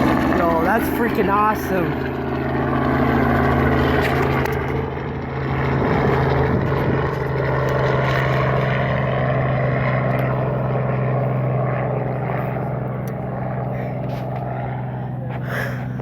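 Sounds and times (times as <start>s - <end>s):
helicopter rotor and engine hum: 0.0s - 16.0s.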